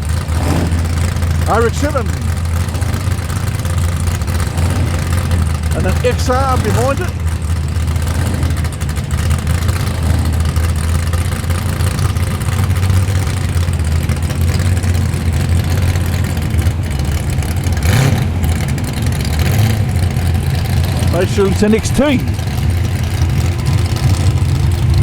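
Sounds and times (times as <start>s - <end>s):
car engines idling: 0.0s - 25.0s.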